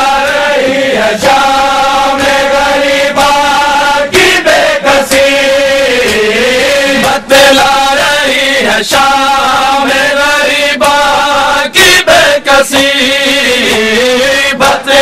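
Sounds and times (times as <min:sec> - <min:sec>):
men chanting a mourning lament: 0:00.0 - 0:15.0.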